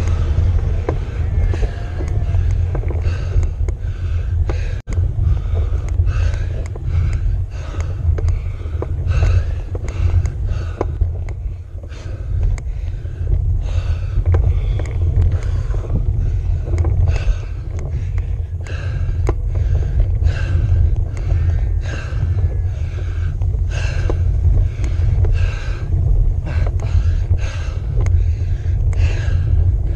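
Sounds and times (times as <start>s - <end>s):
light rattling clicks: 0.0s - 29.9s
person breathing hard: 0.0s - 29.9s
wind and road rumble: 0.0s - 29.9s.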